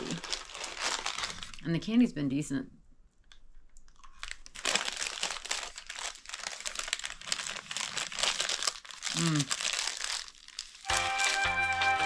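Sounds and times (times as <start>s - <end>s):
paper bag crinkling: 0.0s - 1.7s, 4.0s - 12.0s.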